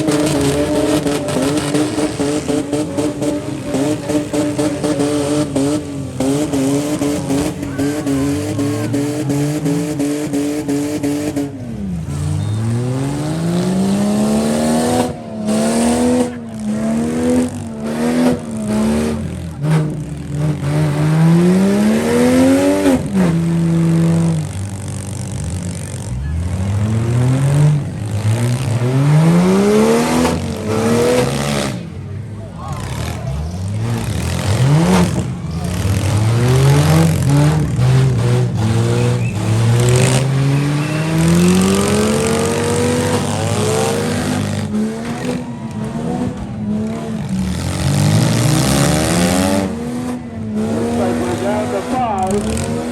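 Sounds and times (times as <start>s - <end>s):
engines revving: 0.0s - 52.9s.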